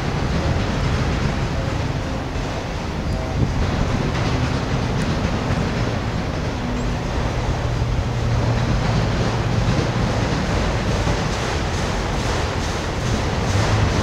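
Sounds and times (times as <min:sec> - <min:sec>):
freight train cars rumbling past: 0:00.0 - 0:14.0.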